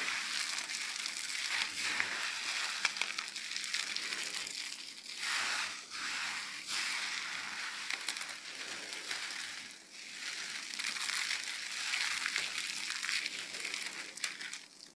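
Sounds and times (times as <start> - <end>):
dry soap crunching in hands: 0.0 - 14.9.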